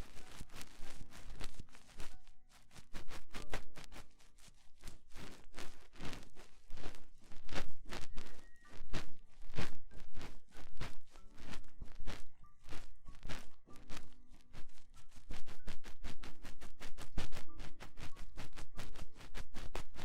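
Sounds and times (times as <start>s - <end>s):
oiled hands rubbing microphone: 0.0s - 20.0s.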